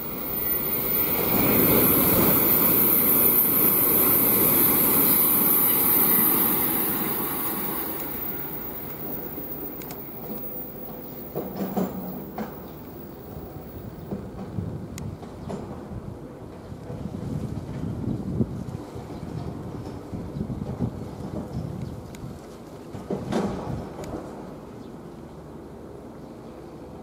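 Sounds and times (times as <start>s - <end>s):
high-speed train passing: 0.0s - 27.0s.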